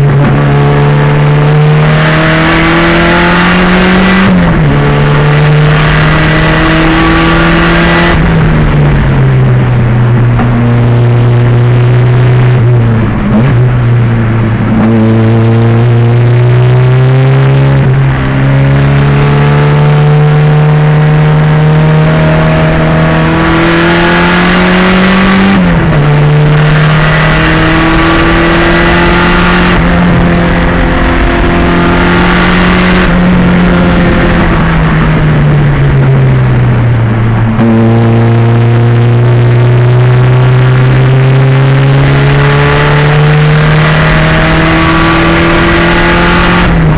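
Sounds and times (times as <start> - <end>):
race car engine running hard: 0.0 - 46.9.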